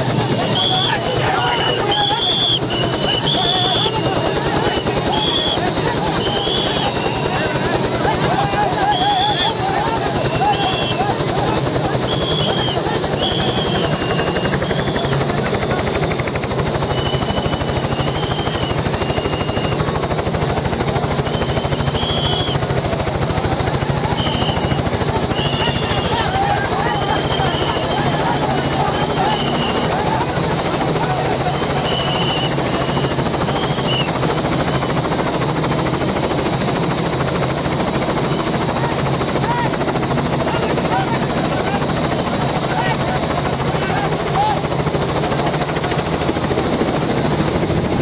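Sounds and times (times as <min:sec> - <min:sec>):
helicopter engine noise: 0:00.0 - 0:48.0
helicopter rotor chopping: 0:00.0 - 0:48.0.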